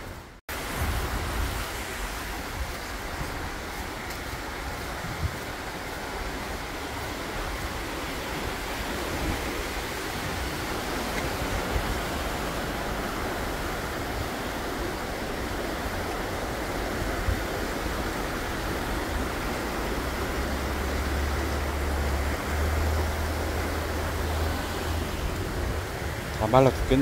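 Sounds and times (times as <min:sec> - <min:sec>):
stream rushing in flood: 0:00.0 - 0:27.0.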